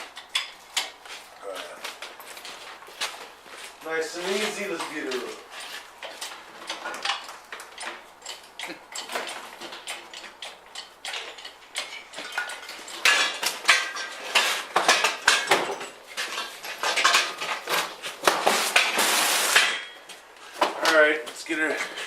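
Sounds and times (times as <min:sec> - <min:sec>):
metallic clanking and rattling: 0:00.0 - 0:02.8, 0:04.1 - 0:20.2.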